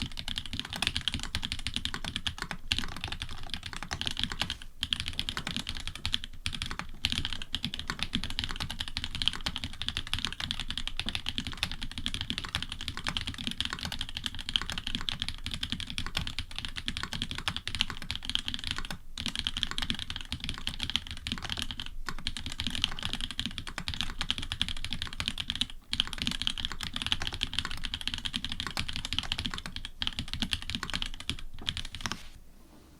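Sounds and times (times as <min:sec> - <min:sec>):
fast typing on mechanical keyboard: 0:00.0 - 0:32.2.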